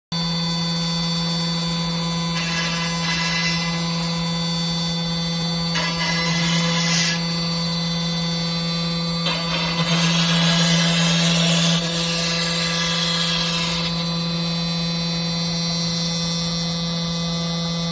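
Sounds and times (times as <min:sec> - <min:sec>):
cnc router spindle hum: 0:00.2 - 0:17.9.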